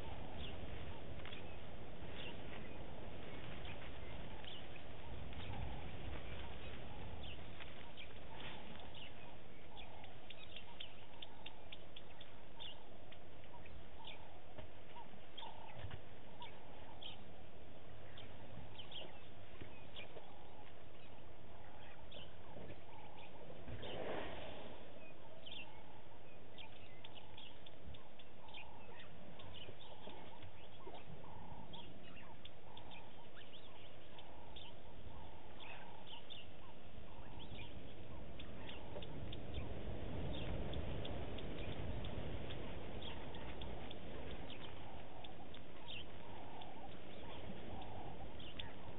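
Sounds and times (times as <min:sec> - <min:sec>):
birds chirping: 0:00.0 - 0:48.9
lower bird call: 0:00.0 - 0:48.9.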